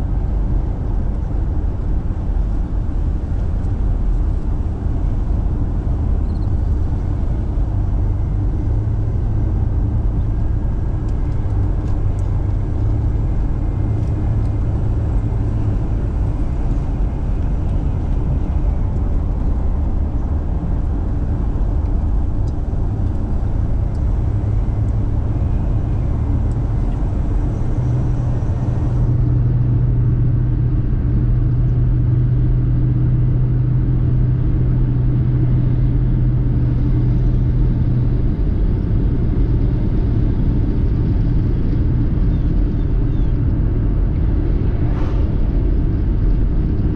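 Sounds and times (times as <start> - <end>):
car engine and tyre rumble: 0.0 - 46.9
low hum: 0.0 - 46.9.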